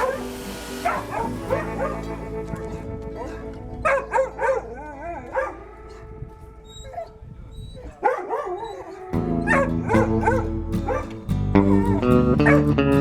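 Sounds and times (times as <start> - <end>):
guitar music: 0.0 - 6.7, 9.0 - 13.0
dogs yipping and howling: 0.0 - 12.8.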